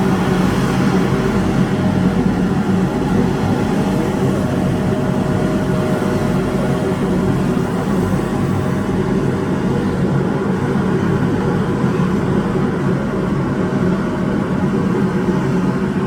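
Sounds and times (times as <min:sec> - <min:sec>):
street sweeper engine drone: 0:00.0 - 0:16.0.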